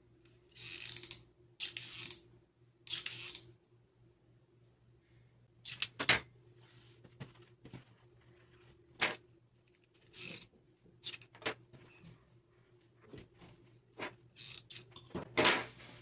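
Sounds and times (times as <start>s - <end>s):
faint steady low hum: 0.0s - 16.0s.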